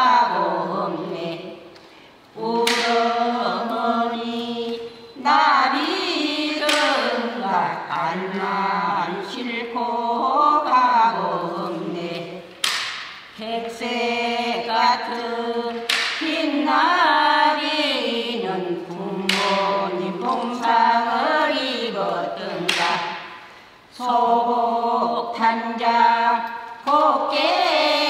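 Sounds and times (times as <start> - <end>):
women singing together unaccompanied: 0.0 - 28.0.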